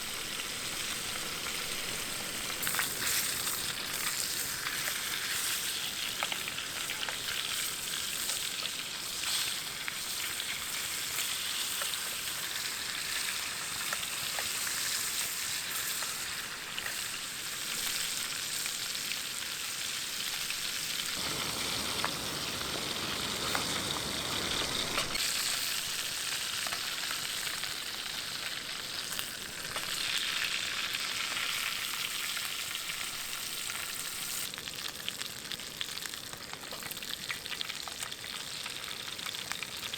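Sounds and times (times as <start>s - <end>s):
food sizzling in a tin: 0.0s - 39.9s.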